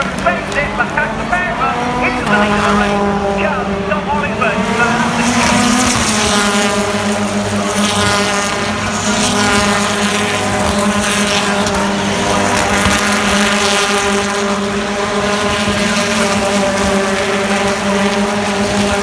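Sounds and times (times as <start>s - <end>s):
race cars passing at speed: 0.0s - 19.0s.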